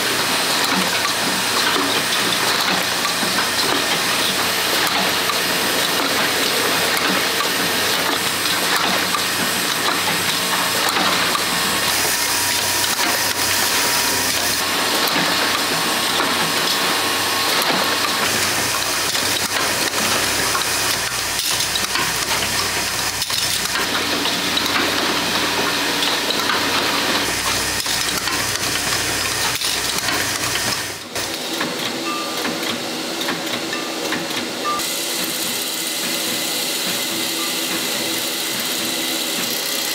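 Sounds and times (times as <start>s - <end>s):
factory machinery running with hissing: 0.0s - 39.9s.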